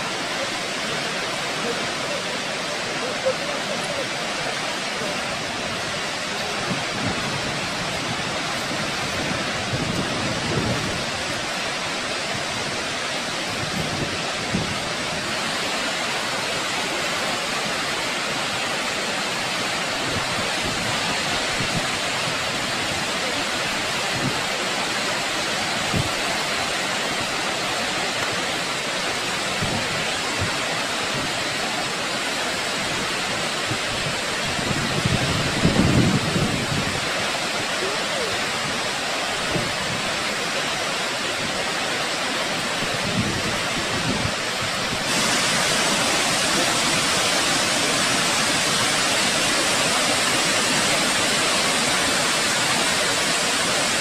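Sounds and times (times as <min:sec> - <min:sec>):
low water surges: 0:00.0 - 0:54.0
waterfall rushing: 0:00.0 - 0:54.0.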